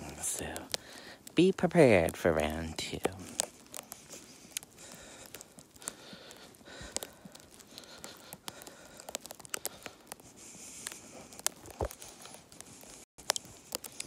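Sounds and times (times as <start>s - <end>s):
faint rustle: 0.0s - 14.0s
sleet ticking on a jacket: 0.0s - 14.0s.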